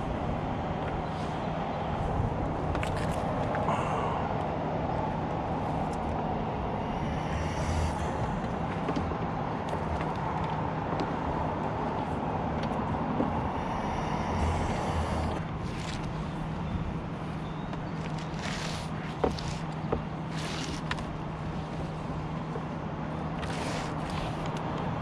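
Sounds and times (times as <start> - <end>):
truck engine droning: 3.7 - 25.0.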